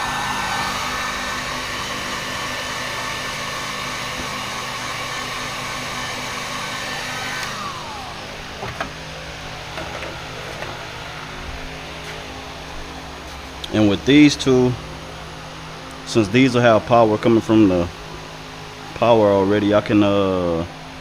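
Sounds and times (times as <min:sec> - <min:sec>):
electric blower motor whining: 0:00.0 - 0:21.0.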